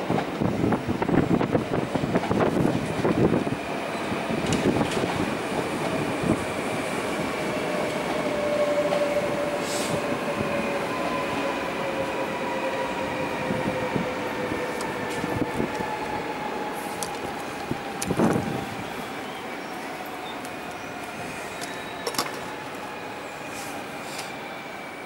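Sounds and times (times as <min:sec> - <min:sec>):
electric train whine: 0:00.0 - 0:25.0.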